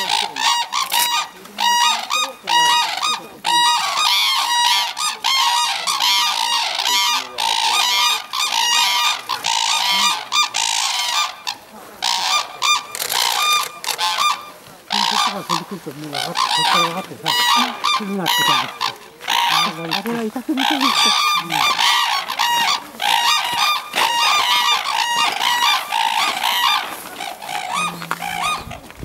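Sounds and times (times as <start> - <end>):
cranes calling: 0.0 - 29.0.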